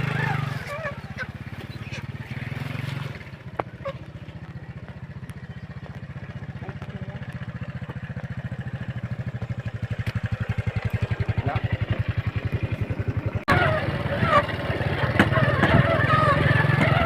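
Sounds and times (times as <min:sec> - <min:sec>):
small engine chugging: 0:00.0 - 0:17.0.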